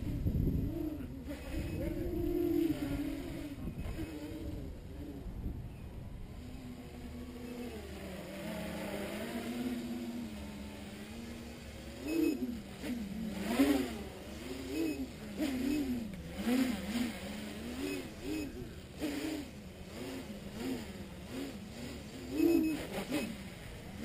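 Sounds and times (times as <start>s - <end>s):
drone motors and propellers whining: 0.0s - 24.0s.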